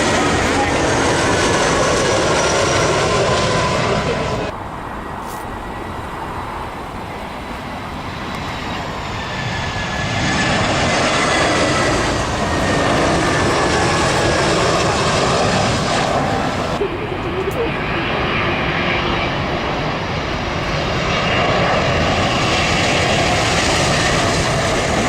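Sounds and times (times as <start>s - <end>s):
high jet engine whine: 0.0s - 25.0s
jet airliner passing overhead: 0.0s - 25.0s.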